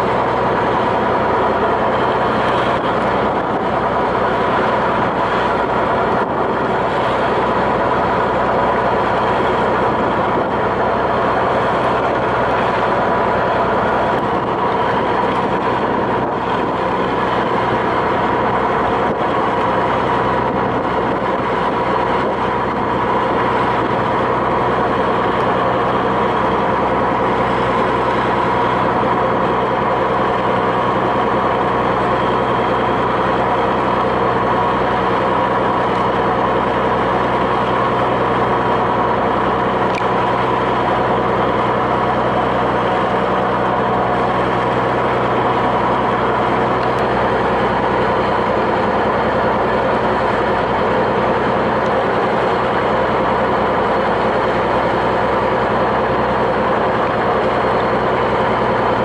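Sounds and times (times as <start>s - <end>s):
boat diesel engine droning: 0.0s - 59.0s.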